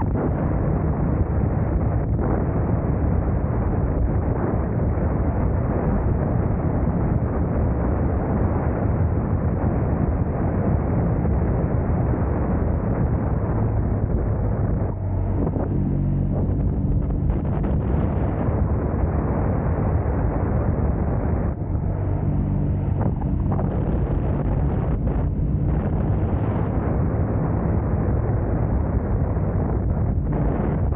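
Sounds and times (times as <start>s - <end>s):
motorcycle engine drone: 0.0s - 30.9s
wind rushing over microphone: 0.0s - 30.9s.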